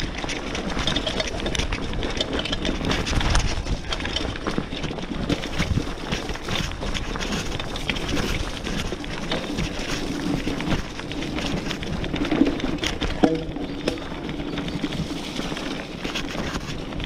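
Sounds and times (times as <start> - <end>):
bike rattling and knocking: 0.0 - 17.0
bike tyres rumbling on dirt: 0.0 - 17.0
wind on microphone: 0.8 - 17.0.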